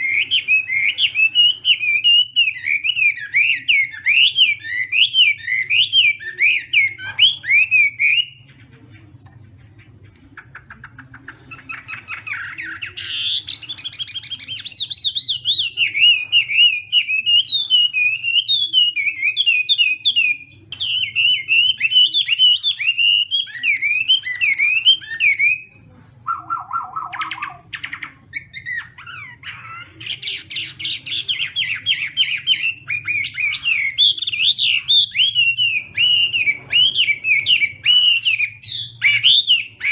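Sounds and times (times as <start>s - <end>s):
songbird whistling and trilling: 0.0s - 8.5s, 11.6s - 39.9s.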